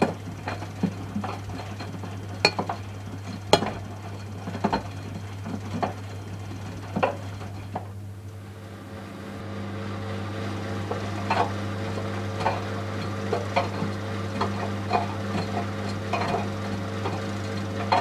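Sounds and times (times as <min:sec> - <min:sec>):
washing machine drum tumbling: 0:00.0 - 0:08.0, 0:08.6 - 0:18.0
motor hum: 0:00.0 - 0:18.0.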